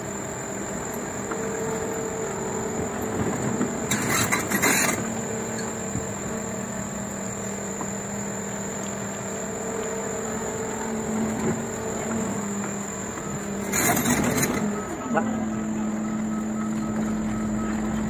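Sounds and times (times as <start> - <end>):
engine running steadily: 0.0 - 18.0
faint high whine: 0.0 - 18.0.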